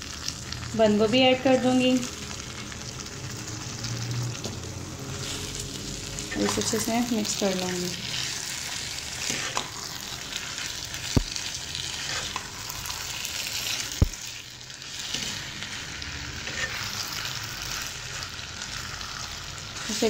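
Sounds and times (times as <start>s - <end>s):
food sizzling in a wok: 0.0s - 20.0s
spatula stirring and tossing food: 1.4s - 20.0s.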